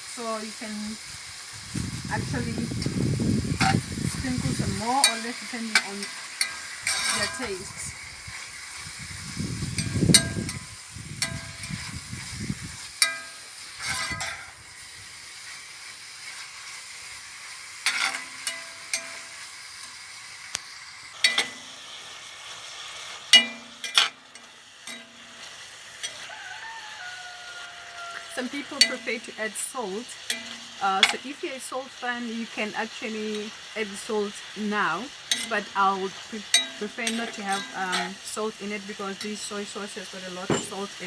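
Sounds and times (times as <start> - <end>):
meat sizzling in a wok: 0.0 - 41.0
utensil scraping a metal wok: 1.1 - 20.4, 21.2 - 31.4, 35.2 - 41.0.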